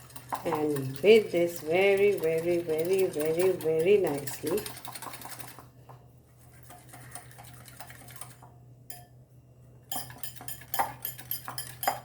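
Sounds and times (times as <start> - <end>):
utensil clinking and scraping bowl: 0.0 - 5.7, 6.4 - 9.1, 9.8 - 12.0.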